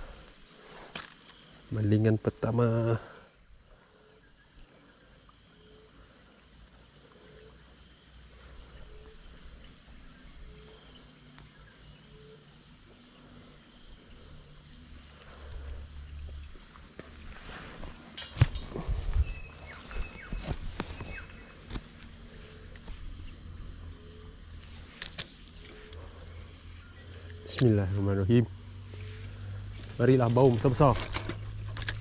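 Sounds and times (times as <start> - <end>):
insects buzzing: 0.0 - 32.0.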